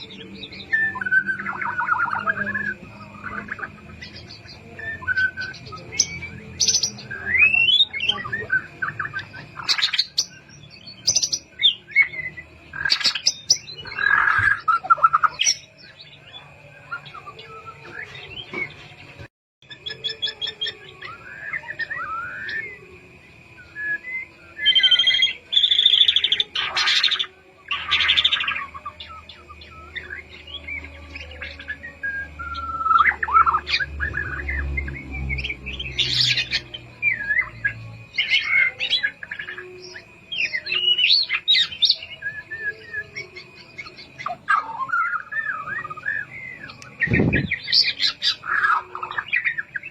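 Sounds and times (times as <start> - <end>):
bird singing whistled phrases: 0.0 - 18.7, 19.7 - 23.0, 23.6 - 49.9.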